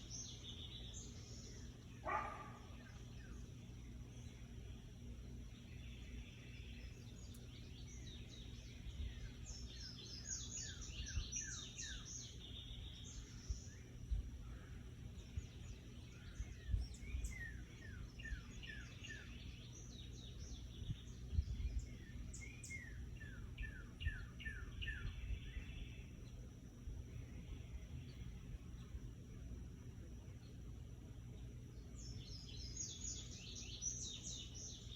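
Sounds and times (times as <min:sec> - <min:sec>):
bird chirping: 0:00.0 - 0:26.6, 0:27.2 - 0:34.9.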